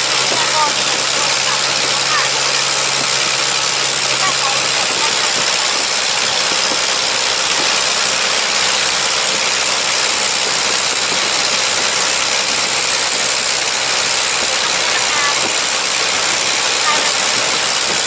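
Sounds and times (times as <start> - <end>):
engine running: 0.0 - 18.0
loud rushing hiss: 0.0 - 18.0.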